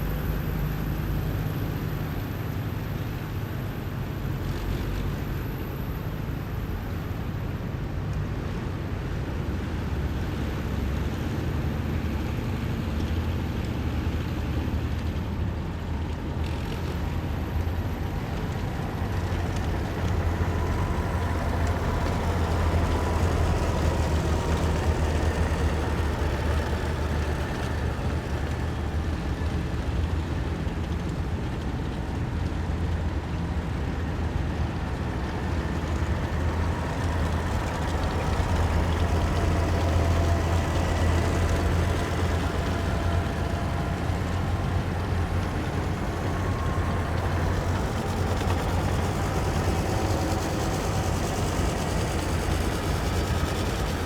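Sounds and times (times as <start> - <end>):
heavy vehicles droning past: 0.0 - 54.0.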